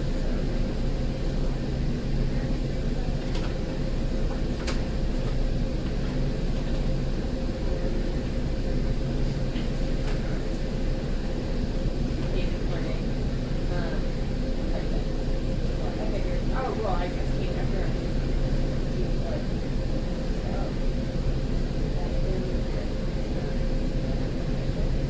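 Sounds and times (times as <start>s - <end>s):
train car equipment hum: 0.0s - 24.8s.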